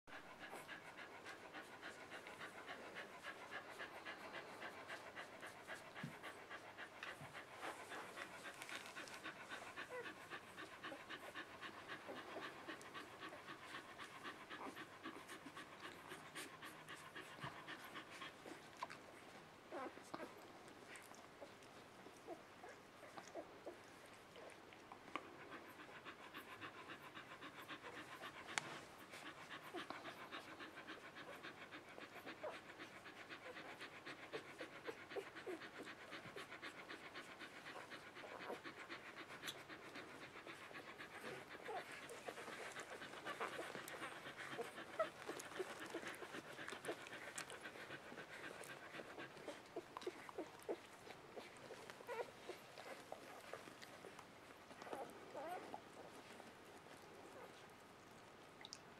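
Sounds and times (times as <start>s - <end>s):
dog panting rapidly: 0.1s - 57.6s.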